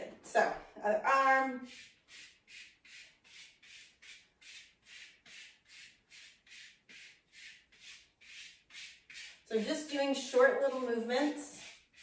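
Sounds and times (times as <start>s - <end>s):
brush bristles sweeping skin: 1.6s - 10.0s, 10.6s - 12.0s.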